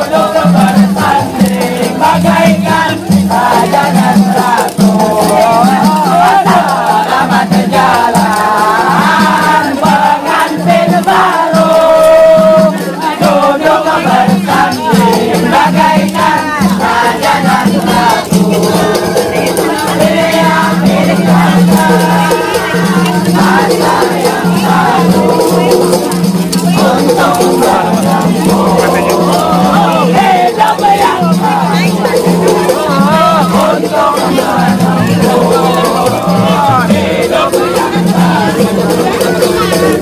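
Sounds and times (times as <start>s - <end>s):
hand drums beating: 0.0s - 40.0s
men chanting together: 0.0s - 40.0s
rattling shaker percussion: 0.0s - 40.0s.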